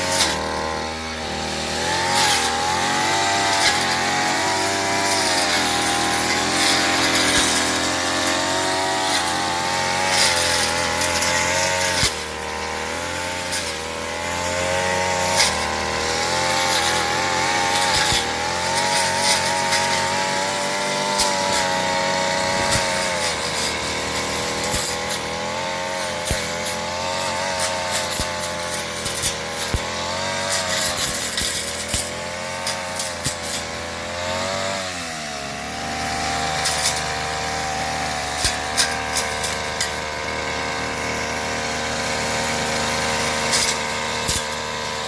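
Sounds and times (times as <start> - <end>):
petrol grass cutter engine: 0.0 - 45.0.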